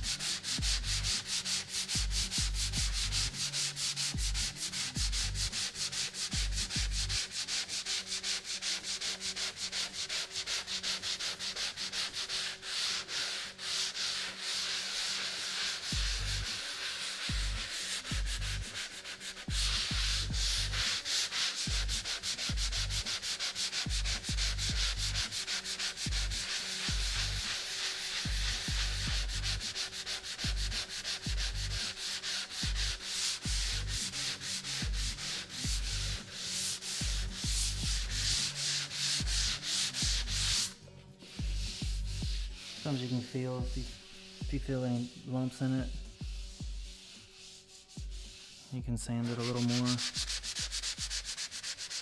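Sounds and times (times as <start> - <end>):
sanding sponge scraping drywall: 0.0 - 52.0.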